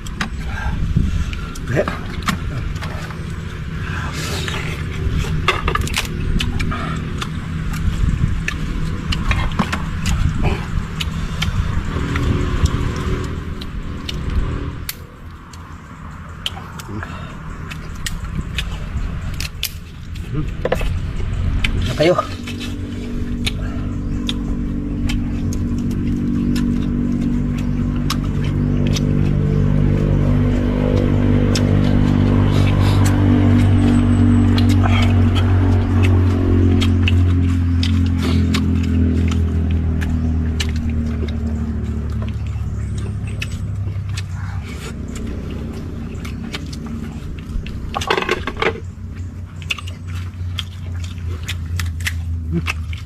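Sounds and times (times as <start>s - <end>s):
engine running with low drone: 0.0s - 53.0s.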